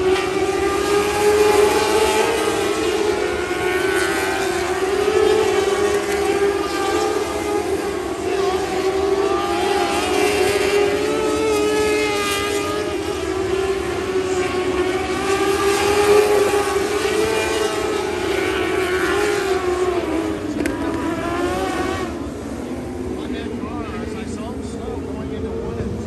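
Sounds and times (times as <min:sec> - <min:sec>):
racing car engines at high revs: 0:00.0 - 0:26.0.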